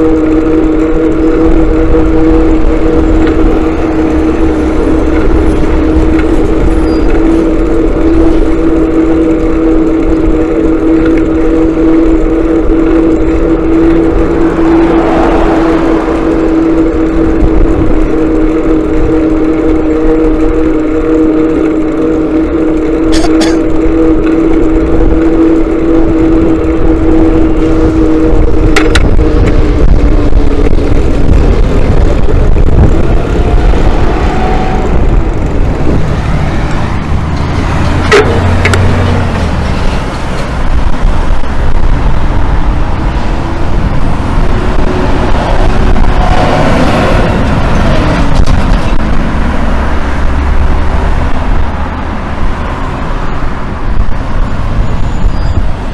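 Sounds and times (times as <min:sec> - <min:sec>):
low wind rumble: 0:00.0 - 0:55.9
motorcycle engine running: 0:00.0 - 0:55.9.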